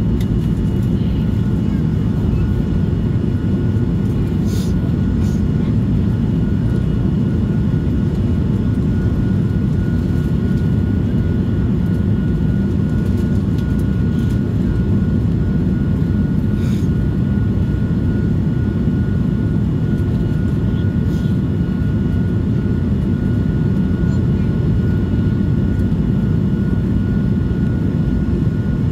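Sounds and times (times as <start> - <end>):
airplane cabin engine roar: 0.0 - 28.9.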